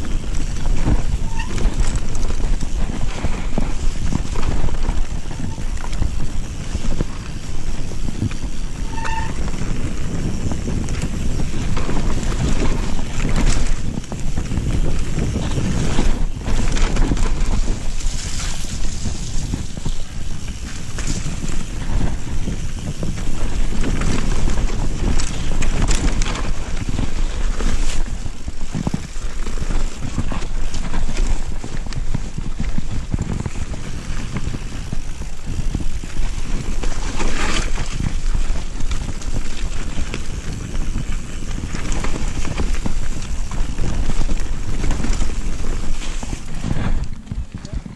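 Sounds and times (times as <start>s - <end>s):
bike rattling and knocking: 0.0s - 47.9s
tyres rolling on gravel trail: 0.0s - 47.9s
wind buffeting microphone: 0.0s - 47.9s.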